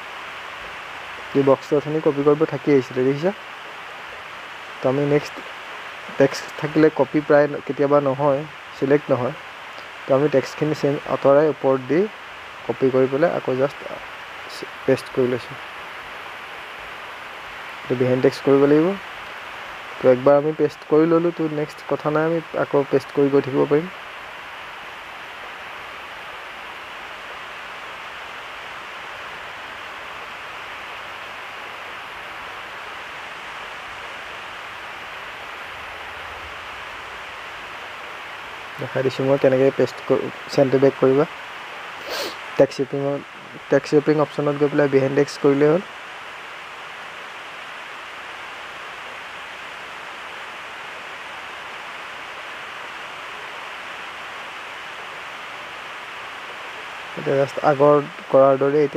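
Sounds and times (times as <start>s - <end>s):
microphone background hiss: 0.0s - 58.9s.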